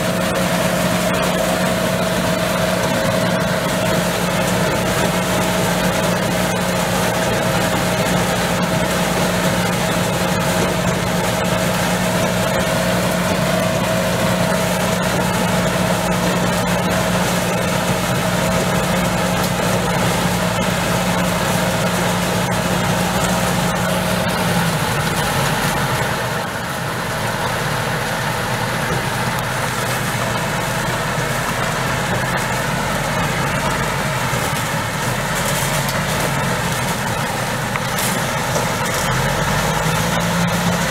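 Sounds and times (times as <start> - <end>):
harvester machinery humming: 0.0 - 40.9.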